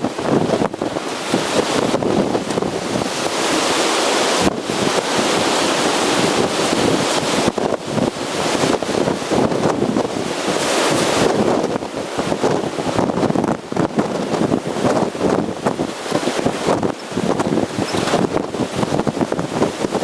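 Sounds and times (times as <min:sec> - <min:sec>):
storm waves breaking on shore: 0:00.0 - 0:20.0
wind blowing across microphone: 0:00.0 - 0:20.0.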